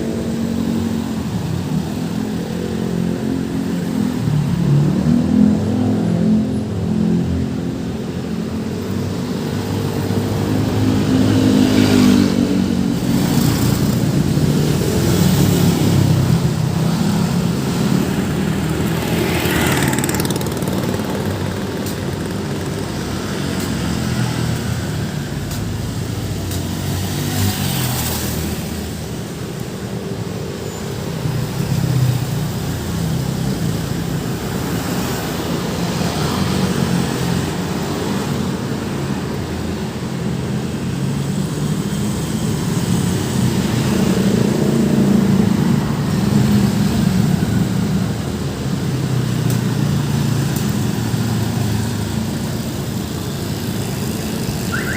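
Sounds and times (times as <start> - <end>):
vehicles passing by: 0.0 - 54.9.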